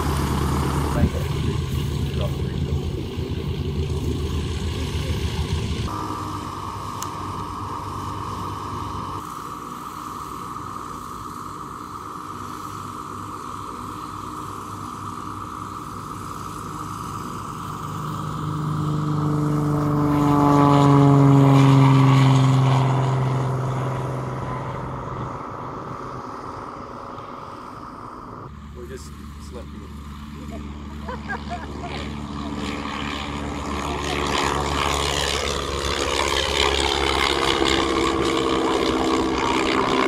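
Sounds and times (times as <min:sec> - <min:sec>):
propeller aircraft passing: 0:00.0 - 0:40.0
steady background hum: 0:00.0 - 0:40.0.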